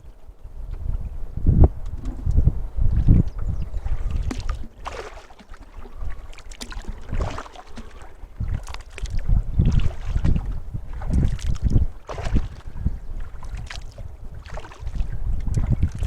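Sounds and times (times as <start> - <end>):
wind on microphone: 0.0 - 16.0
paddle splashing in water: 3.0 - 16.0.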